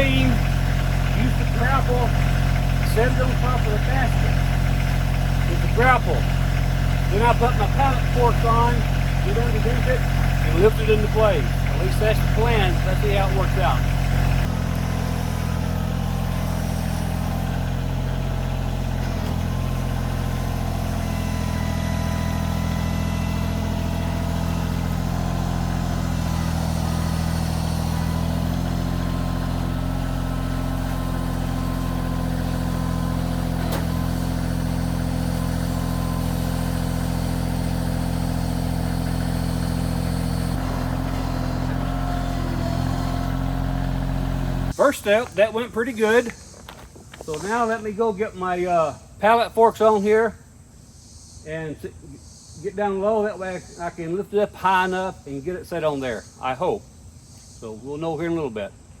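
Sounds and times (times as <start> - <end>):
tractor diesel engine running: 0.0 - 48.4.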